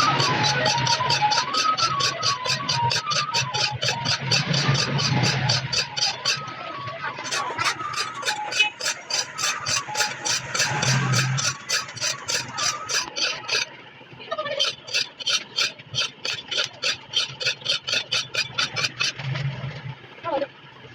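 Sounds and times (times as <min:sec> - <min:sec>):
blade scraping on sharpener: 0:00.0 - 0:13.7, 0:14.5 - 0:19.2.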